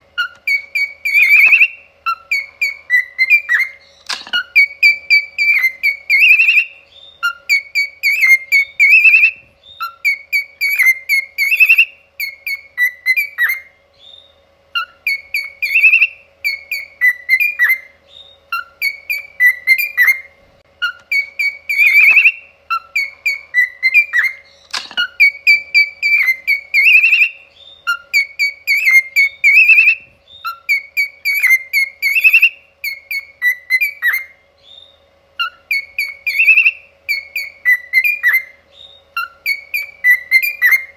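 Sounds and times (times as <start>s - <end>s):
cockatiel whistling a tune: 0.2s - 40.9s.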